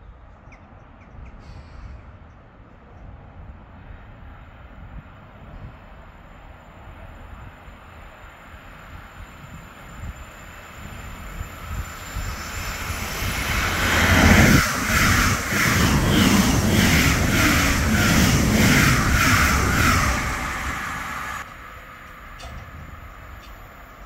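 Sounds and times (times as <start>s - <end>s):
train passing: 1.7s - 24.0s.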